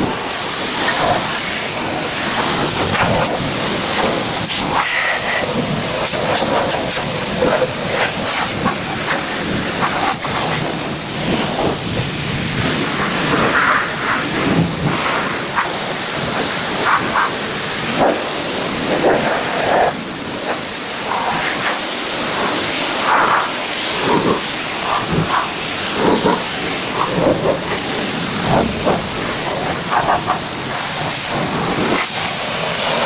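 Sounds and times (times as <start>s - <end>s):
pressure washer spraying water: 0.0s - 33.0s.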